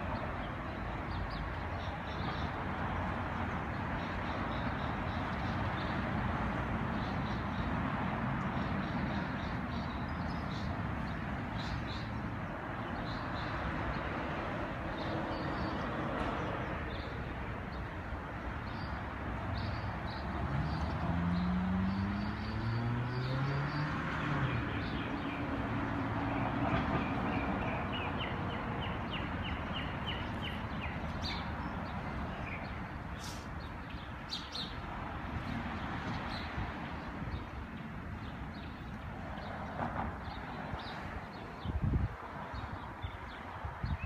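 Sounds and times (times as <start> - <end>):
traffic noise: 0.0 - 44.0
birds chirping: 8.5 - 44.0.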